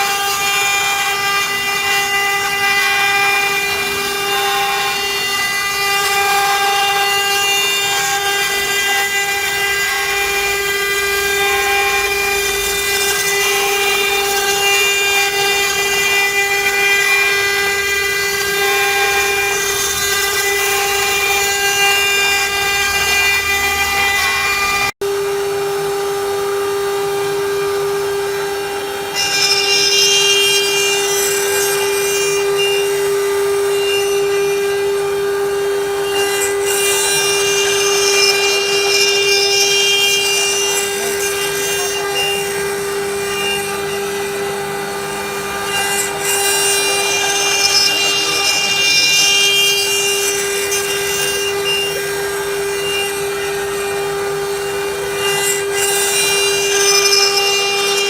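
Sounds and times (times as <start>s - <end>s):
cutter cutting wood: 0.0s - 58.0s
machine spindle whine: 0.0s - 58.0s.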